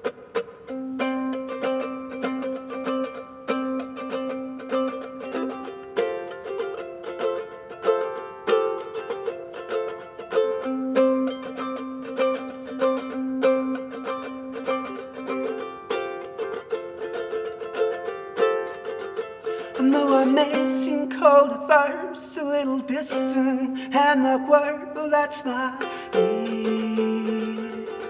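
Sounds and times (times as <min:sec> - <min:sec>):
plucked string instrument picking: 0:00.0 - 0:28.0.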